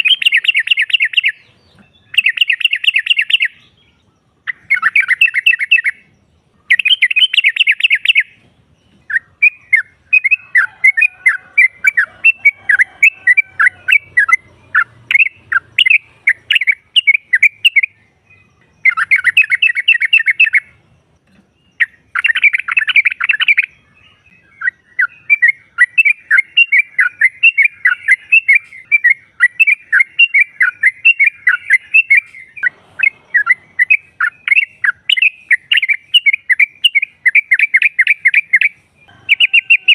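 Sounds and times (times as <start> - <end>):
bird chattering calls: 0.0 - 3.7, 4.4 - 6.1, 6.7 - 8.4, 9.0 - 18.0, 18.8 - 20.8, 21.8 - 23.8, 24.6 - 39.9.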